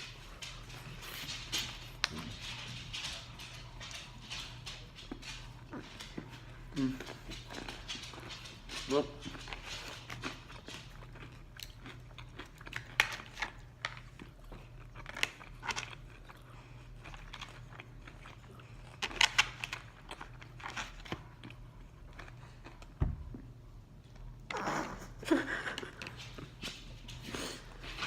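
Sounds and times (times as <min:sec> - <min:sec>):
chewing crispy fried chicken: 0:00.0 - 0:23.0.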